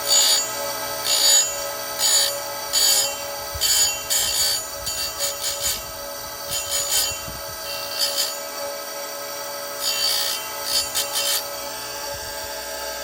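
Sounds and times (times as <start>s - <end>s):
grinder motor hum: 0.0s - 13.0s.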